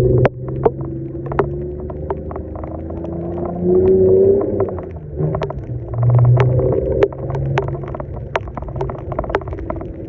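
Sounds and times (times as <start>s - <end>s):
sharp clicks and knocks: 0.0s - 10.0s.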